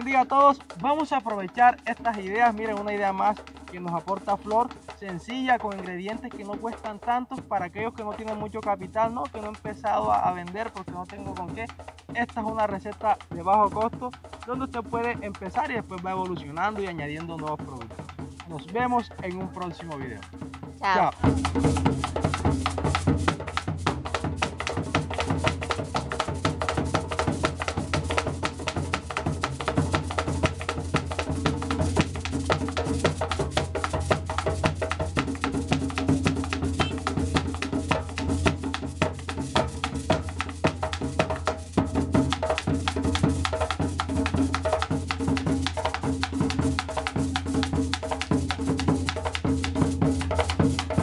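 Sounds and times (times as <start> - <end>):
music with fast percussion beat: 0.0 - 51.0.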